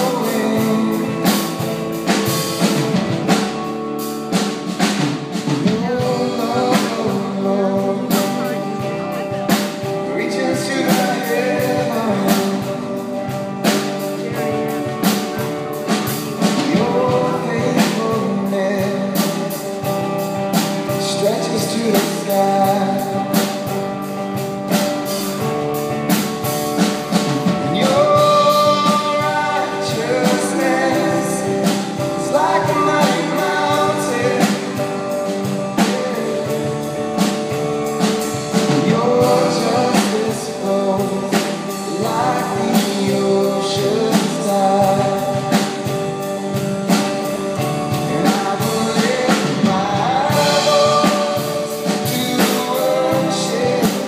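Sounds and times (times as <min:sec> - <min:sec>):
person singing: 0:00.0 - 0:03.0, 0:05.4 - 0:24.4, 0:27.2 - 0:54.0
drum kit steady beat: 0:00.0 - 0:54.0
electric guitars: 0:00.0 - 0:54.0.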